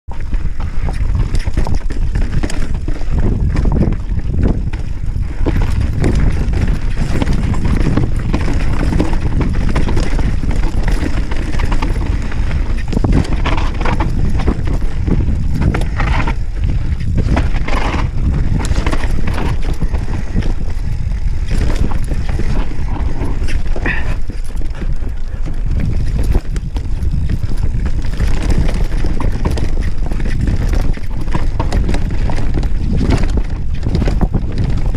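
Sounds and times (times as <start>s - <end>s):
bike rattling and clattering: 0.1s - 34.9s
tyres and air rumbling: 0.1s - 34.9s.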